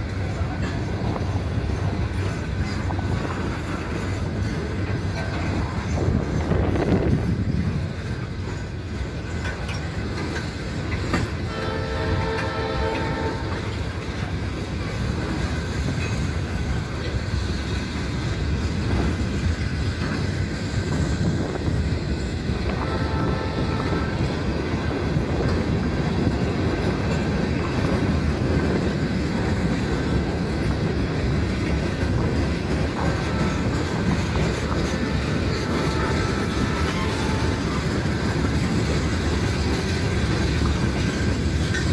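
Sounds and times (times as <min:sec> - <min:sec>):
freight train wheels on rails: 0:00.0 - 0:41.9.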